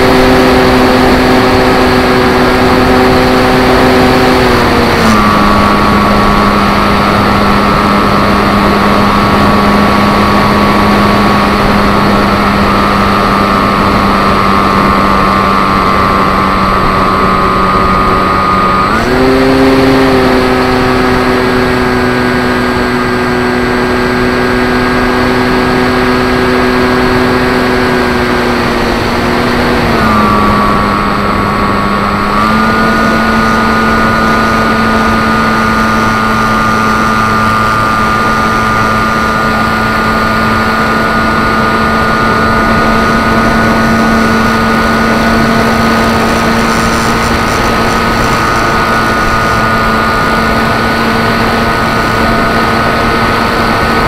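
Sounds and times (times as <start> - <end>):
electric motor and propeller droning: 0.0 - 54.0.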